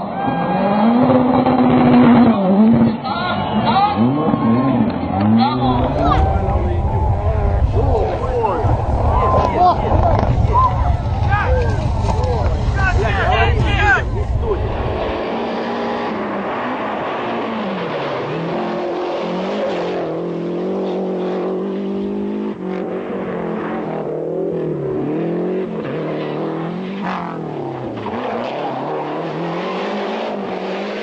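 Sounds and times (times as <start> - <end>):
car engine revving hard: 0.3 - 31.0.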